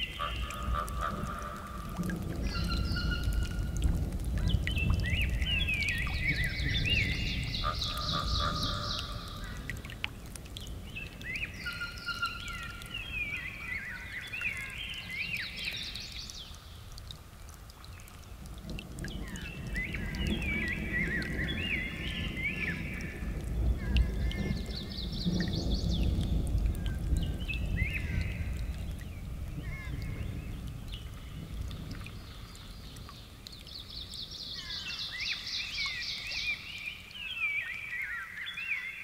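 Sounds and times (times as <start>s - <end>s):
songbird singing: 0.0s - 17.0s, 17.8s - 39.0s.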